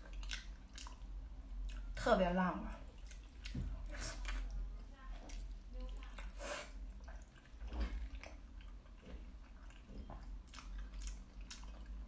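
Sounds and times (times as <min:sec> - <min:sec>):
chewing soft meat: 0:00.0 - 0:02.0, 0:02.7 - 0:12.0.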